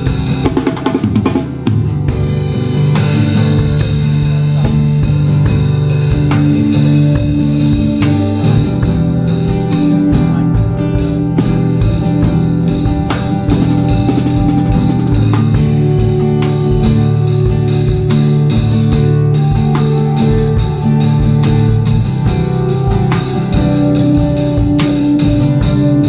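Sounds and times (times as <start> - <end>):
drum kit beat: 0.0 - 26.0
worship band playing: 0.0 - 26.0.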